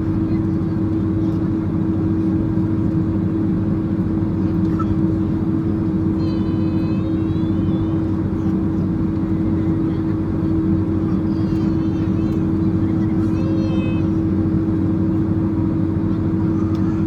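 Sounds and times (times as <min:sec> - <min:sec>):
aircraft engine hum in cabin: 0:00.0 - 0:17.0.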